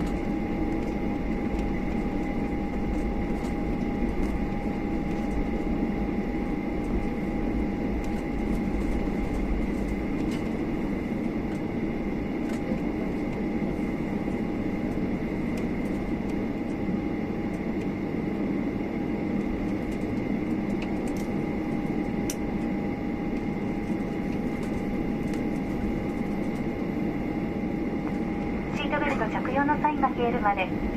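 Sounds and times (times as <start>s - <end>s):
aircraft cabin engine drone: 0.0s - 30.9s.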